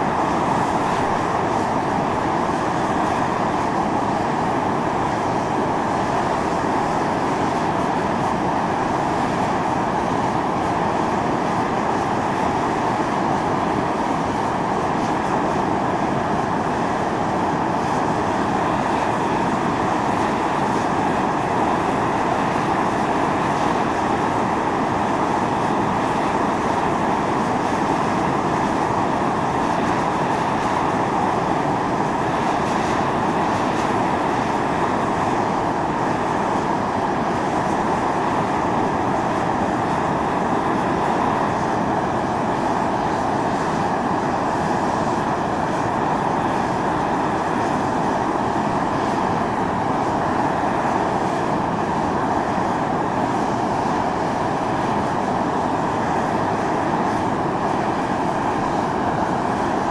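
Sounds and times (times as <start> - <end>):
steam jetting with hissing rush: 0.0 - 59.9.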